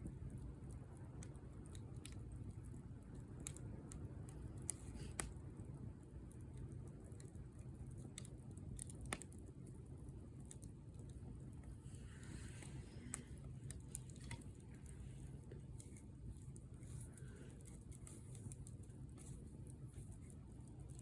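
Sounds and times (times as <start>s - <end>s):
low rush of burning: 0.0s - 21.0s
wood fire crackling and popping: 0.0s - 21.0s.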